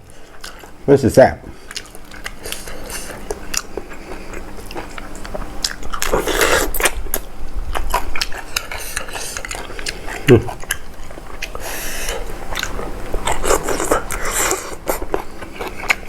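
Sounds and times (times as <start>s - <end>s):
person chewing food: 0.0s - 0.8s, 1.5s - 16.0s.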